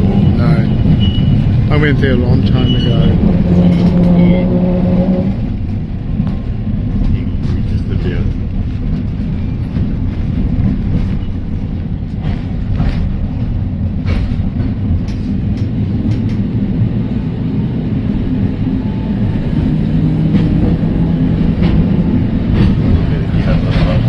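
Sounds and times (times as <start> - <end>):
tram rumbling on track: 0.0 - 24.0.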